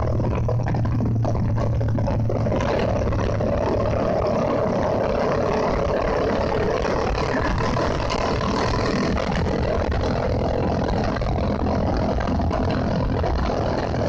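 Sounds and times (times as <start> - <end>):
motorcycle engine cruising: 0.0 - 14.0
wind rushing on microphone: 0.0 - 14.0.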